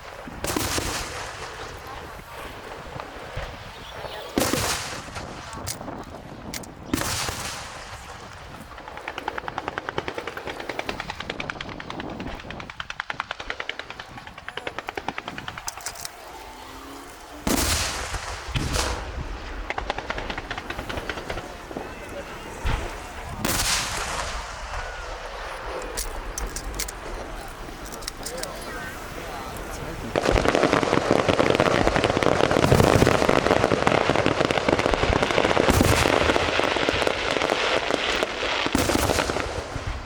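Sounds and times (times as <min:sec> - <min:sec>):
rapid crackling pops: 0:00.0 - 0:40.0.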